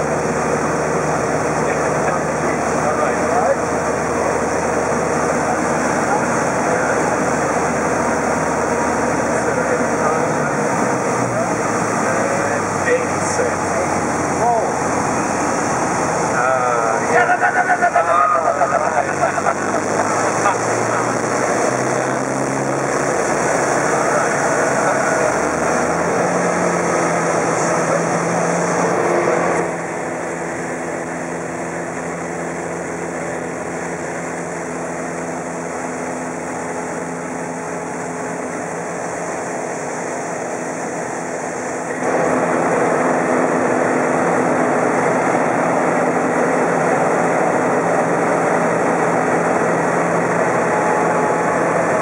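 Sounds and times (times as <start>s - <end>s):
aircraft engine and propeller: 0.0s - 52.0s.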